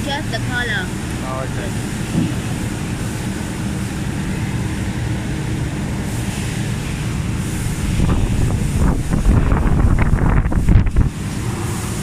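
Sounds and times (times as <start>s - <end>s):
factory fans droning: 0.0s - 12.0s.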